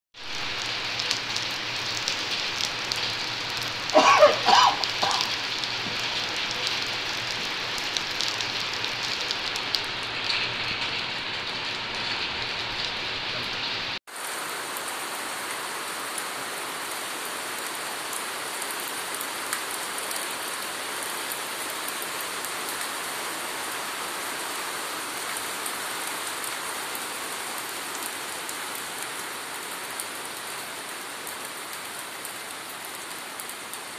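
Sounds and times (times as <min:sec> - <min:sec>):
rain on wet pavement: 0:00.2 - 0:33.9.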